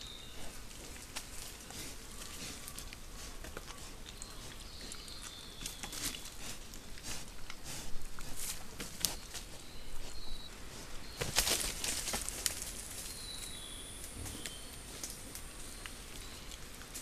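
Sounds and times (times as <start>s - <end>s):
piglets rooting in mud: 0.0s - 13.0s, 14.4s - 17.0s.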